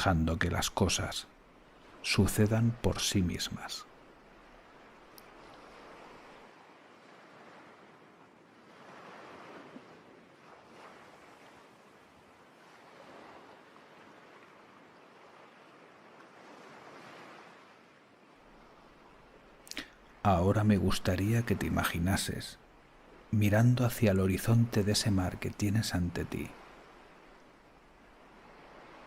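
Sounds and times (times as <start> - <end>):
faint sea waves breaking: 0.0 - 29.0.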